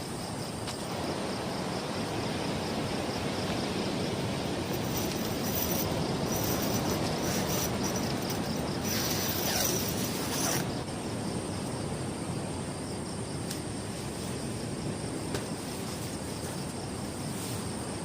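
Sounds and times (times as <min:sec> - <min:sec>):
night insects chirping: 0:00.0 - 0:18.0
strong wind: 0:00.0 - 0:18.0.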